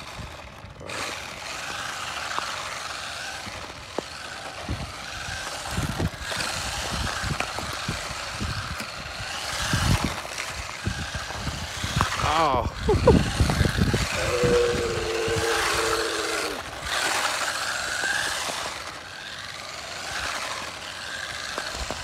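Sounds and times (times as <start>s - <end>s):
electric motor whine: 0.0s - 22.0s
tyre noise: 0.0s - 22.0s.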